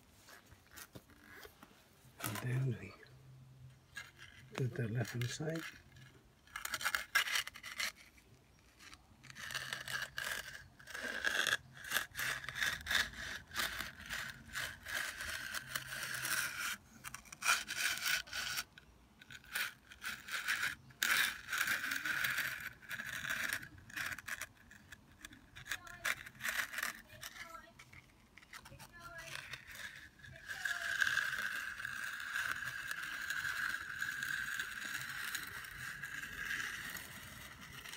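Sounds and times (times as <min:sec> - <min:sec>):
hand edger scraping wet concrete: 0:03.9 - 0:08.0, 0:08.8 - 0:37.9.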